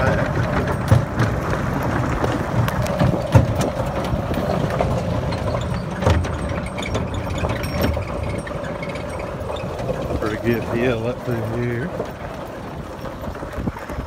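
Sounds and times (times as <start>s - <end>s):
charger rattling and knocking: 0.0s - 14.0s
utility cart tyres on gravel: 0.0s - 14.0s.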